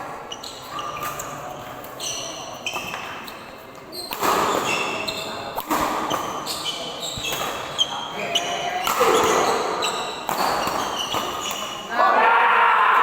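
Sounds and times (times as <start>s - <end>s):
shoes squeaking on court floor: 0.0s - 11.9s.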